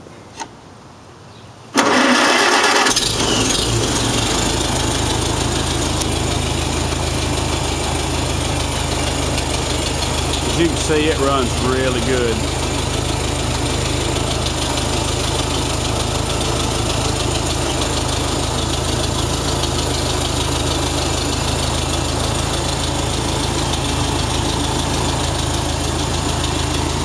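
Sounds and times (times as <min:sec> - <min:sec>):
tractor engine running: 0:01.8 - 0:27.0.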